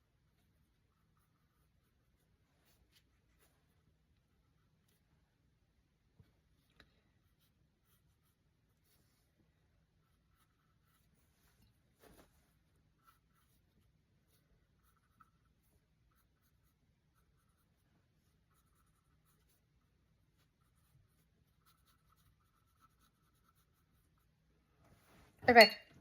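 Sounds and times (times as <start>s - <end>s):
paintbrush scratching on canvas: 0.0s - 5.1s, 7.2s - 24.5s.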